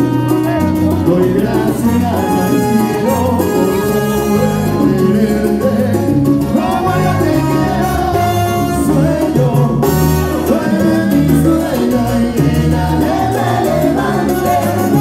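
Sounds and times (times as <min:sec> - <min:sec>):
salsa music with singer: 0:00.0 - 0:15.0.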